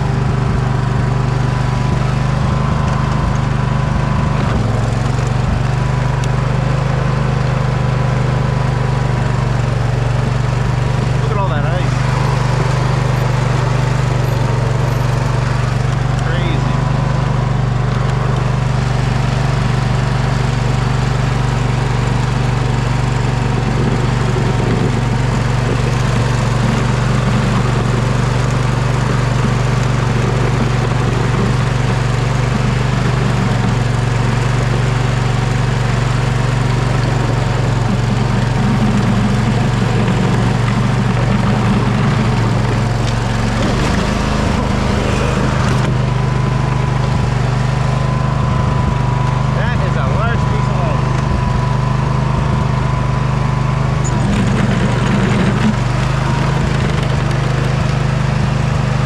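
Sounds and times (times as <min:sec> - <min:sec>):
riding mower engine running: 0:00.0 - 0:59.0.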